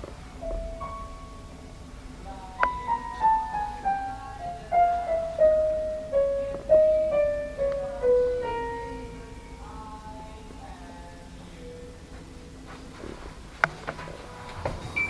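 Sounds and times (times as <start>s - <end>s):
slow piano melody: 0.0s - 12.9s.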